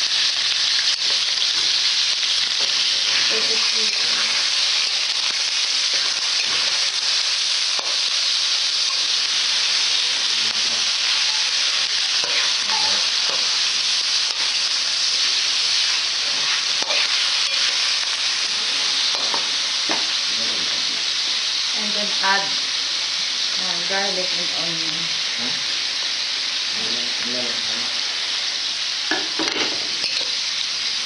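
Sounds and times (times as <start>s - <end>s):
chicken sizzling in wok: 0.0s - 31.0s.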